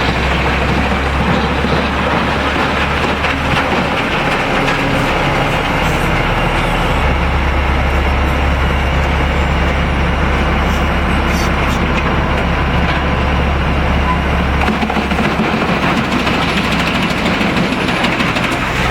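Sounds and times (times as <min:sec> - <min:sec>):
wood chipper crunching wood: 0:00.0 - 0:07.5, 0:10.4 - 0:18.9
diesel engine drone: 0:00.0 - 0:18.9.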